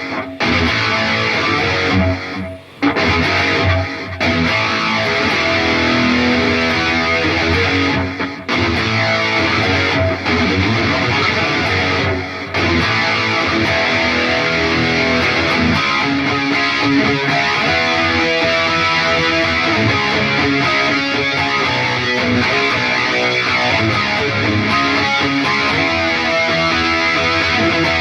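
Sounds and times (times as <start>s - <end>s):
distorted electric guitar noodling: 0.0s - 28.0s.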